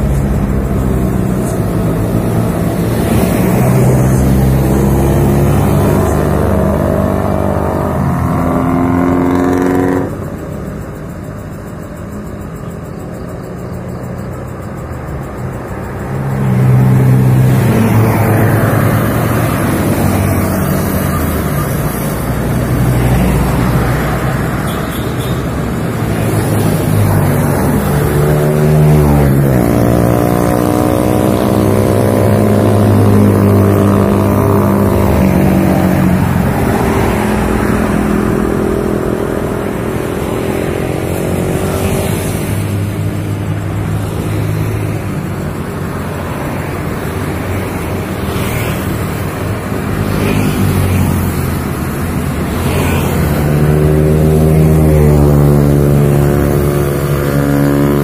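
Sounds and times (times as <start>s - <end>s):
cars passing by: 0.0s - 58.0s.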